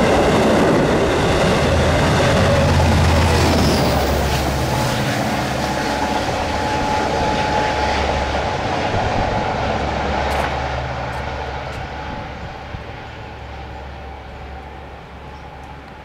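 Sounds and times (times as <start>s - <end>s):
train engine and wheels rumbling: 0.0s - 16.0s.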